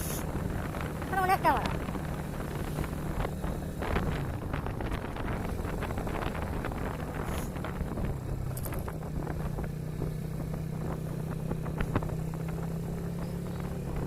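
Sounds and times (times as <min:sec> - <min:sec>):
motorcycle engine running: 0:00.0 - 0:14.0
wind noise: 0:00.0 - 0:14.0.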